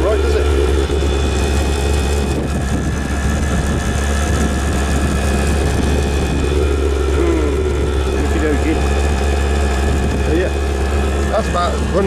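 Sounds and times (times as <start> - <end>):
diesel air heater humming: 0.0 - 12.0.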